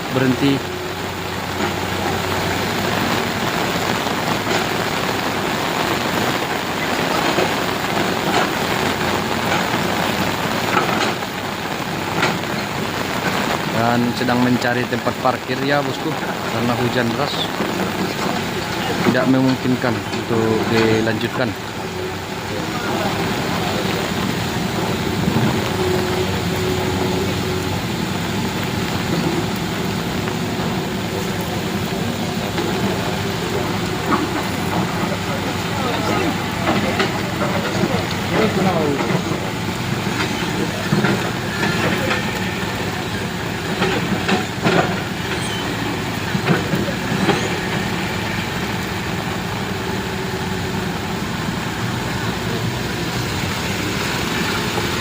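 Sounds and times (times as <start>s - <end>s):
heavy rain: 0.0s - 55.0s
vehicle engine humming: 0.0s - 55.0s.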